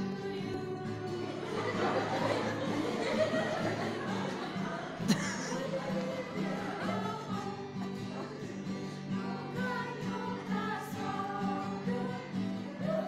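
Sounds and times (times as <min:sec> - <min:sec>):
guitar: 0:00.0 - 0:13.0
women's choir singing: 0:00.0 - 0:13.0.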